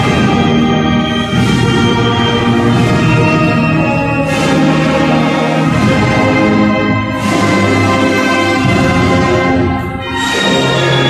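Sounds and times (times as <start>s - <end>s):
band playing a slow hymn: 0.0s - 11.0s.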